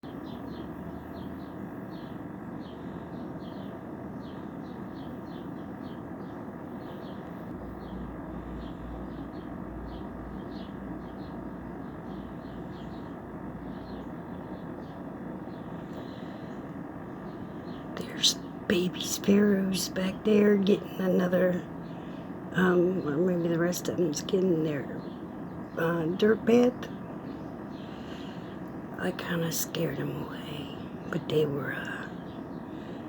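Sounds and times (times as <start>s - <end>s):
sparrows chirping: 0.0s - 33.0s.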